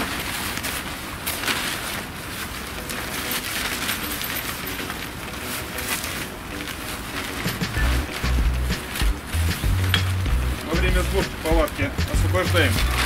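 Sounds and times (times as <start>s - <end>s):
tent fabric rustling and flapping: 0.0s - 13.0s.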